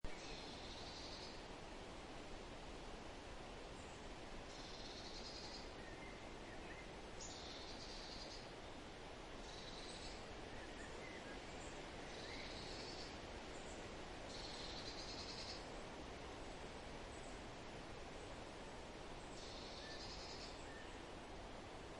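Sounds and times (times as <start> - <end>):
steady outdoor hiss: 0.0 - 21.9.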